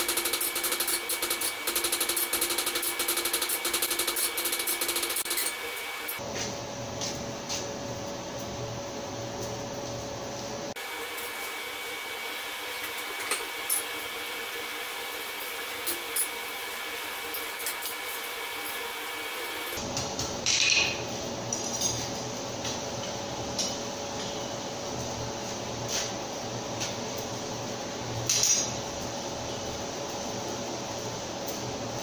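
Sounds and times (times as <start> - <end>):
forge air blower whirring: 0.0 - 32.0.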